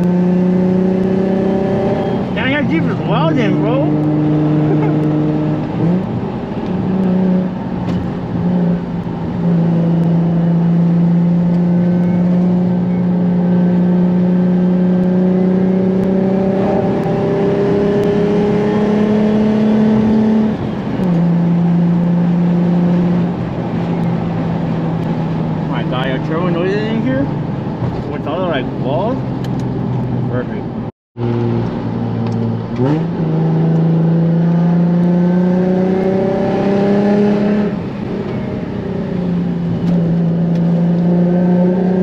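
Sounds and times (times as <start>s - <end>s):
car engine under throttle: 0.0s - 42.0s.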